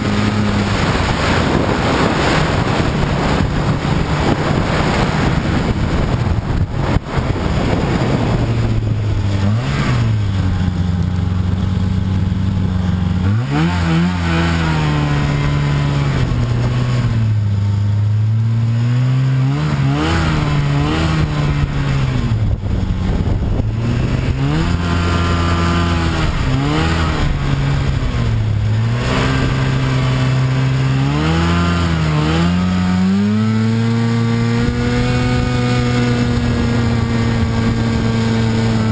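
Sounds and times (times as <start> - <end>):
snowmobile engine revving: 0.0 - 38.9
wind noise on microphone: 0.0 - 38.9.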